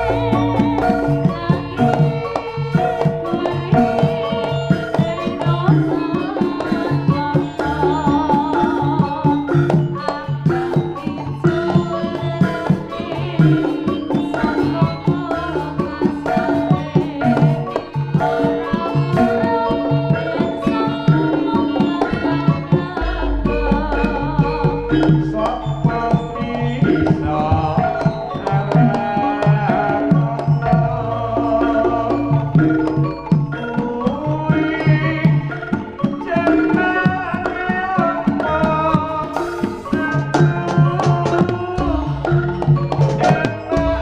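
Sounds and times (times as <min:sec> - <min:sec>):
reedy high melody: 0:00.0 - 0:37.7
hand drums fast rhythm: 0:00.0 - 0:44.0
ringing metallophone notes: 0:00.0 - 0:44.0.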